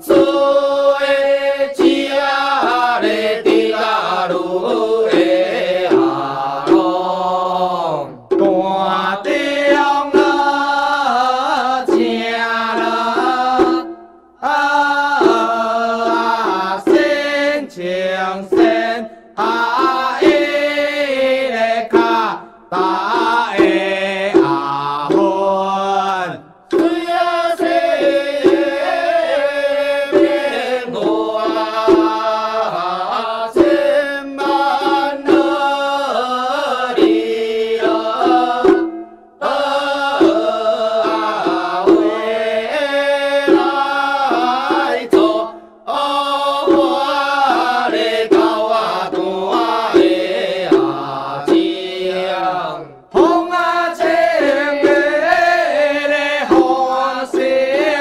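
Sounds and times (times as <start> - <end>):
chanting voice singing melody: 0.0 - 58.0.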